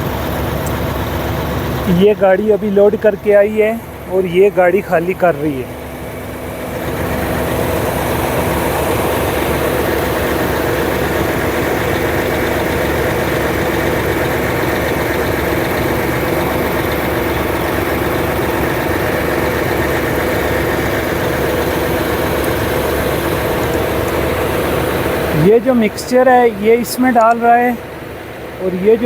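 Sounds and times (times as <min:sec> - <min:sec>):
heavy diesel engines running: 0:00.0 - 0:29.0.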